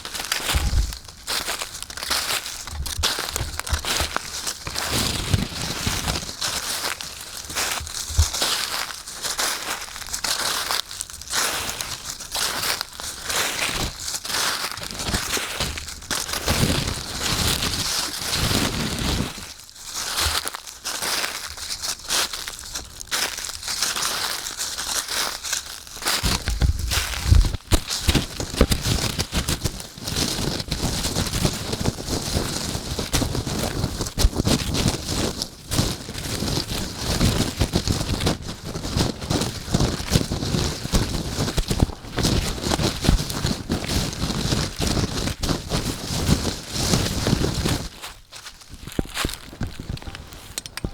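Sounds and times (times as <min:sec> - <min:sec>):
footsteps crunching dry leaves: 0:00.0 - 0:50.9.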